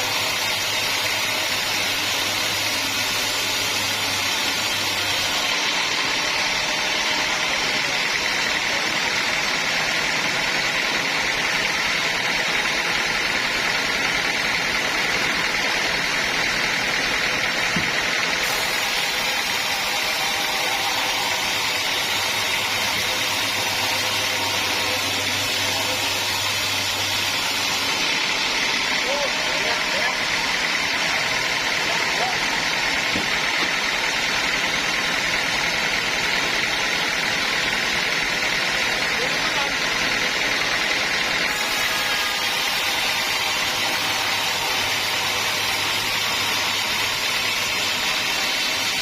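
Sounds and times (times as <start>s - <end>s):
sawmill saw cutting log: 0.0s - 49.0s.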